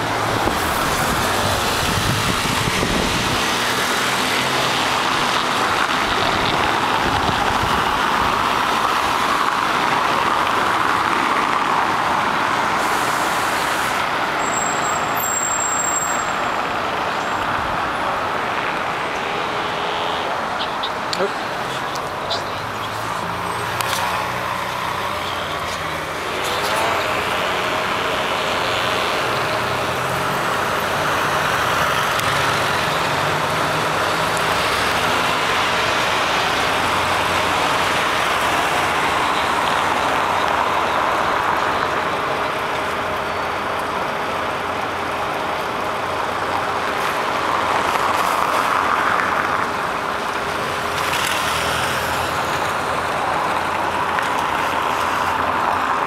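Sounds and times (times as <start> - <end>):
traffic driving past: 0.0 - 56.0.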